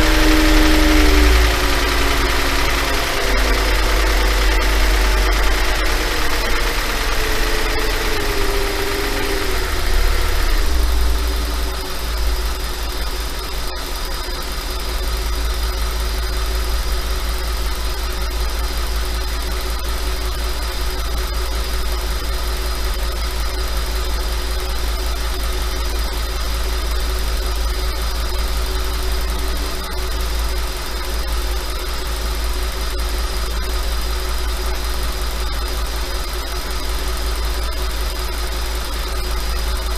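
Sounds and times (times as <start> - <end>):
car engine idling with rattle: 0.0 - 39.9.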